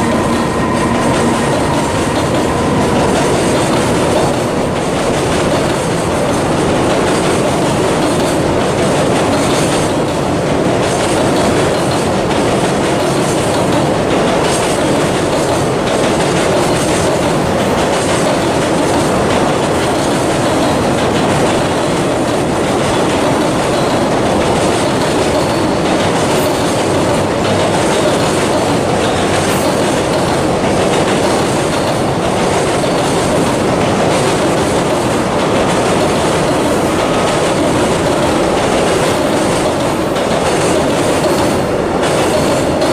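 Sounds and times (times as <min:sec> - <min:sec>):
clickety-clack of rail joints: 0:00.0 - 0:42.9
freight train wheels on rails: 0:00.0 - 0:42.9.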